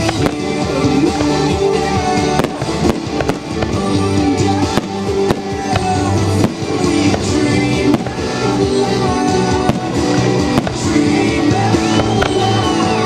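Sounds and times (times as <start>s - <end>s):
firework bangs: 0.0s - 13.0s
music playing: 0.0s - 13.0s.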